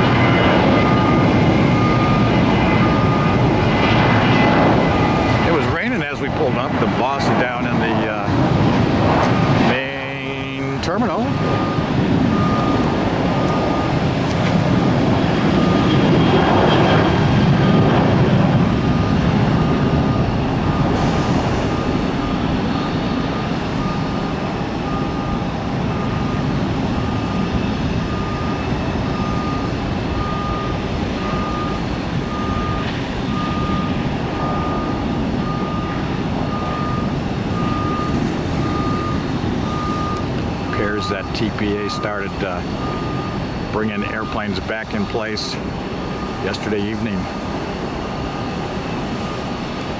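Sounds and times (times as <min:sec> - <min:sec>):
low engine rumble: 0:00.0 - 0:49.9
reversing alarm beeping: 0:00.0 - 0:49.9.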